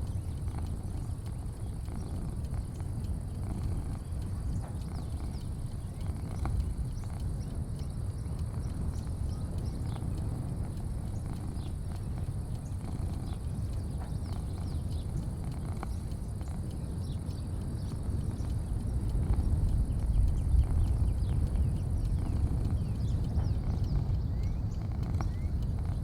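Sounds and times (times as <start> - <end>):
faint high insect drone: 0.0 - 26.0.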